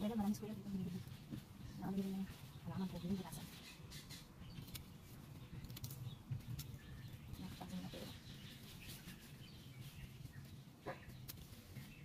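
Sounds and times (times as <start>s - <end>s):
birds calling faintly: 0.0s - 12.0s
vines rustling: 0.0s - 12.0s.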